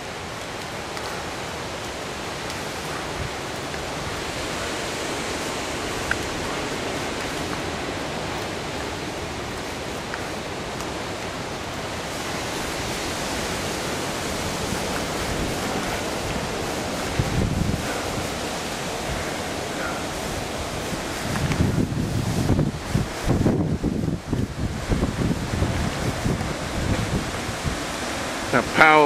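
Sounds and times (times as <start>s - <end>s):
wind rushing through trees: 0.0s - 29.0s.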